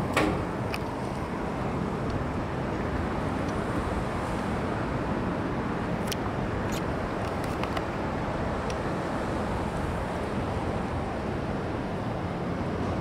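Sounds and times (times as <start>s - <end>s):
road traffic rumble and hiss: 0.0s - 13.0s.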